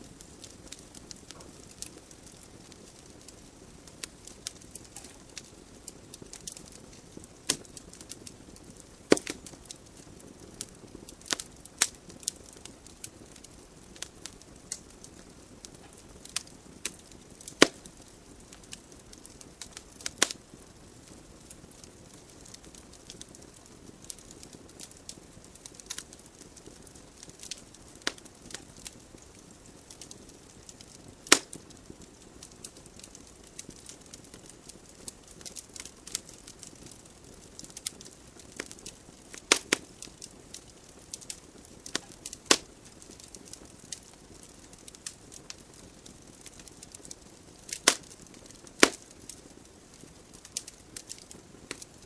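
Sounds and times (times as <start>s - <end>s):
burning logs crackling and popping: 0.0s - 52.0s
loud fire snaps: 0.0s - 52.0s
soft hiss of flames: 0.0s - 52.0s.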